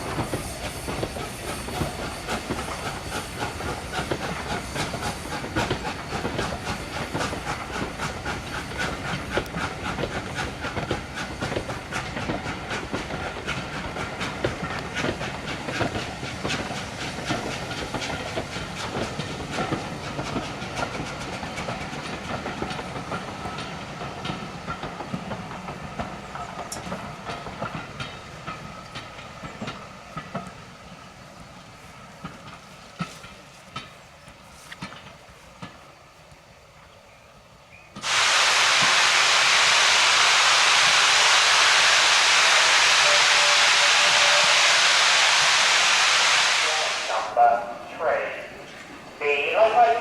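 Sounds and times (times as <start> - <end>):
steam hissing from locomotive: 0.0 - 35.7, 37.9 - 50.0
train wheels clicking over rail joints: 0.0 - 36.4, 37.9 - 46.2.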